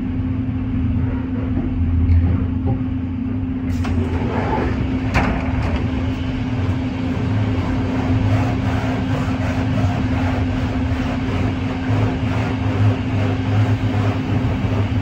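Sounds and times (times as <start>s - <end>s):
train rumbling inside carriage: 0.8s - 15.0s.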